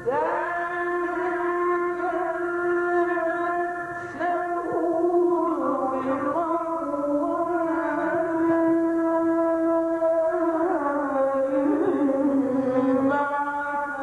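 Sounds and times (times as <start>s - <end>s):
man chanting melismatic recitation: 0.0s - 14.0s.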